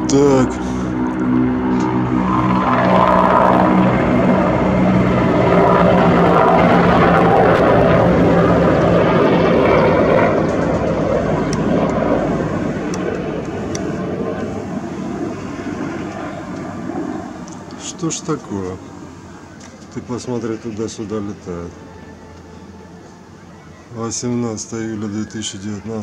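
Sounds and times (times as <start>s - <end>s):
helicopter rotor beat: 0.0s - 21.9s
turbine whine: 0.0s - 26.0s.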